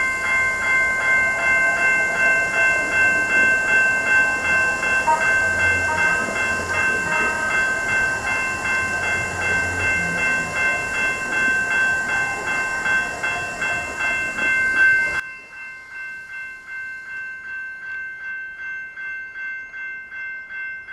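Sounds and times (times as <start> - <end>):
light-rail train passing: 0.0 - 20.9
railroad crossing bells ringing: 0.0 - 20.9.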